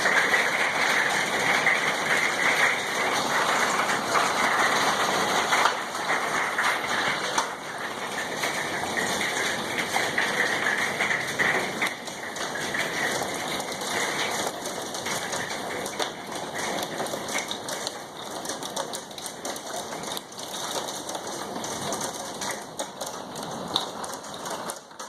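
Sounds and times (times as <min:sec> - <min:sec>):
hailstones striking hard surfaces: 0:00.0 - 0:25.0.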